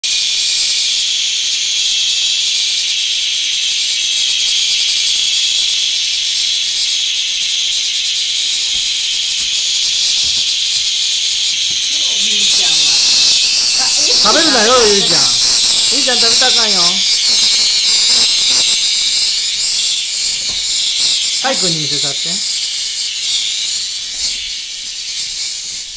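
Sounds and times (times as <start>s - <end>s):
cicada buzzing: 0.0s - 25.9s.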